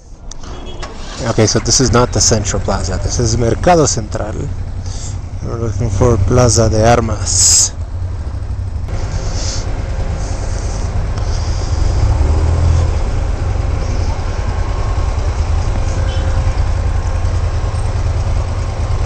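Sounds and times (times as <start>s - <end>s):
bus engine running: 0.0s - 19.0s
motorcycle engine rumbling: 0.0s - 19.0s.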